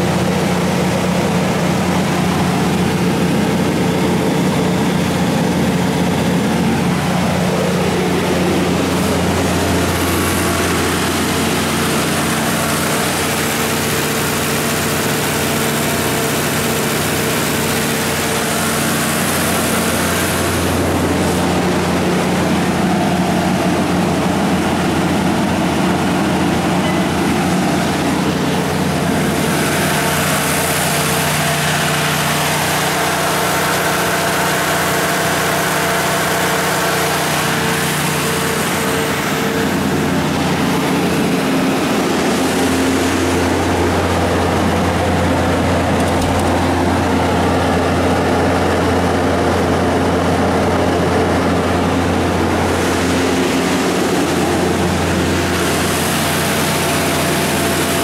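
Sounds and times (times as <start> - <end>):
fan noise rushing: 0.0 - 58.0
generator engine hum: 0.0 - 58.0.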